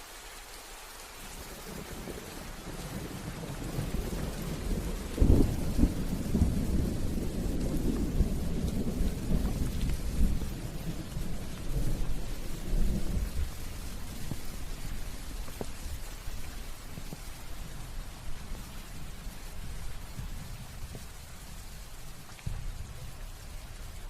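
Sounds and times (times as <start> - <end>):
steady rain falling: 0.0 - 24.0
thunder rumbling: 1.6 - 24.0.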